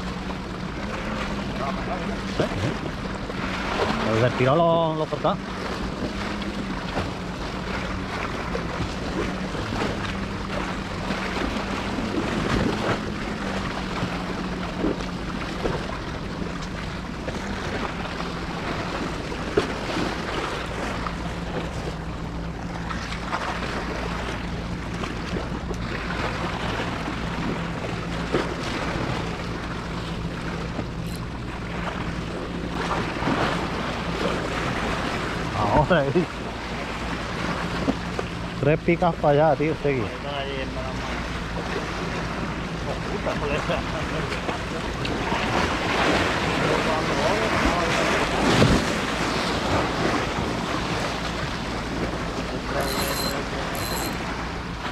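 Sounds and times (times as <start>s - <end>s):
sea waves washing against rocks: 0.0s - 54.9s
steady low hum: 0.0s - 54.9s.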